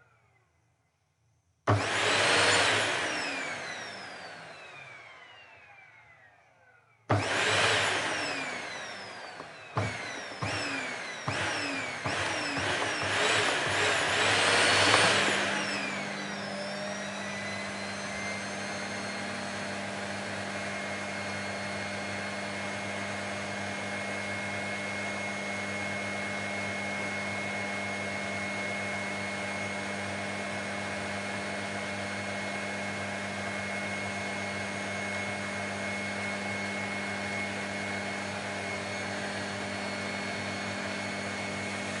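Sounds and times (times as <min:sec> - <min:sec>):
vacuum cleaner motor running: 0:01.7 - 0:42.0.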